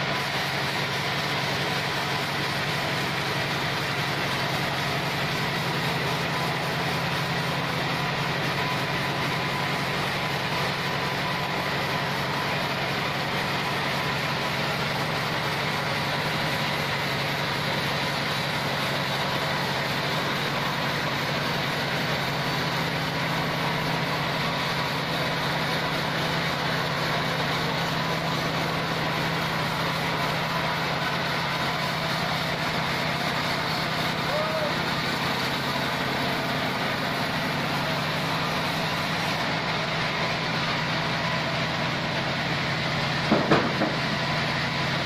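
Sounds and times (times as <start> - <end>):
band sawmill machine drone: 0.0 - 45.0.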